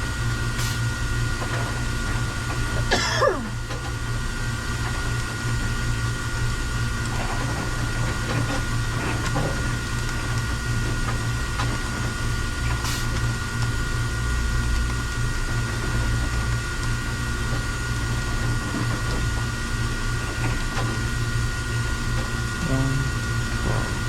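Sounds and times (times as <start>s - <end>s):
machine hum with steady tones: 0.0s - 24.0s.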